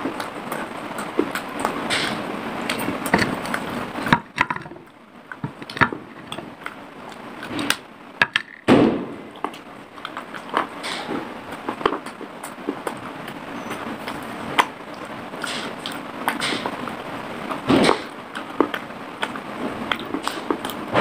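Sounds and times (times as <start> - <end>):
clay cup being chewed: 0.0 - 8.7, 9.3 - 20.9.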